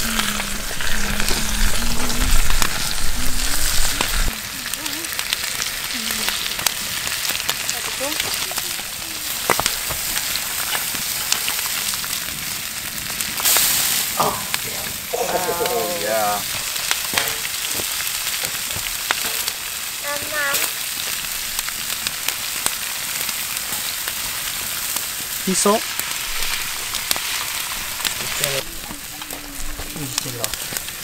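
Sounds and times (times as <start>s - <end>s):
fish sizzling on a grill: 0.0s - 31.0s
wood fire crackling pops: 0.0s - 31.0s.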